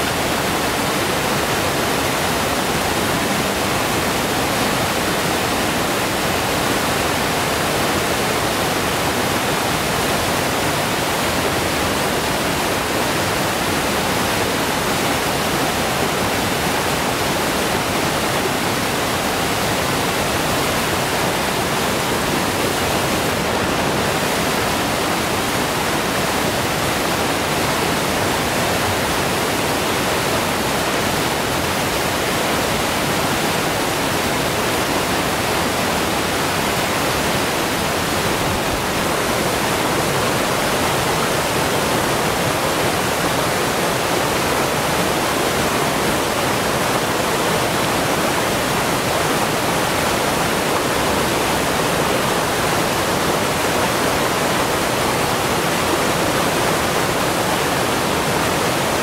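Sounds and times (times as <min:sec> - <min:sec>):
stream cascading over boulders: 0:00.0 - 0:59.0.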